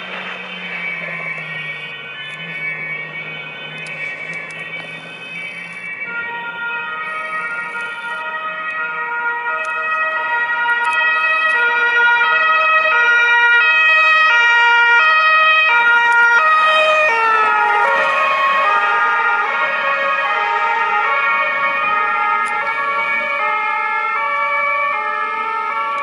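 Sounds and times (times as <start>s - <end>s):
police two-tone siren: 0.0s - 26.0s.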